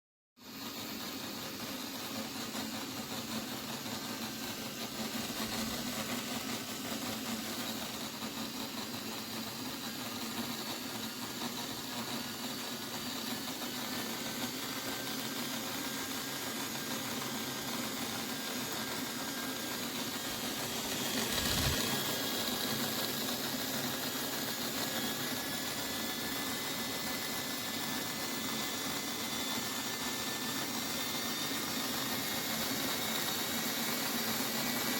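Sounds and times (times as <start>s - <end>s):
small motor whining: 1.8s - 34.9s.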